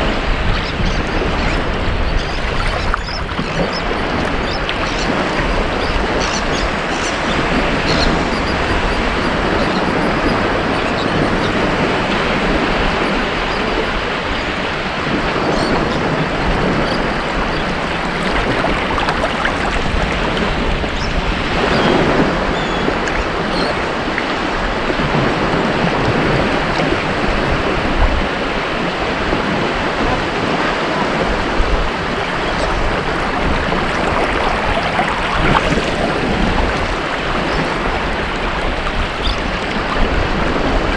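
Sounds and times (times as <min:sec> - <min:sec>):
ocean surf washing onto beach: 0:01.2 - 0:40.9.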